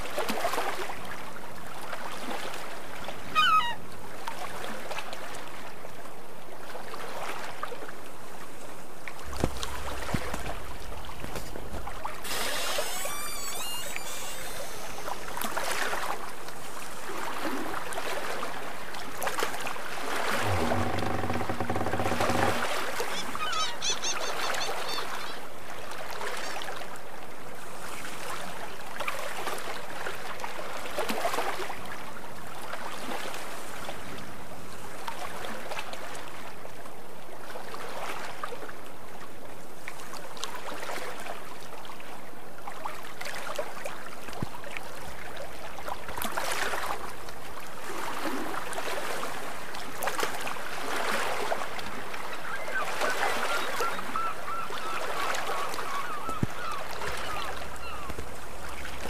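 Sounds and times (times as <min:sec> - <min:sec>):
water rushing along boat hull: 0:00.0 - 0:59.0.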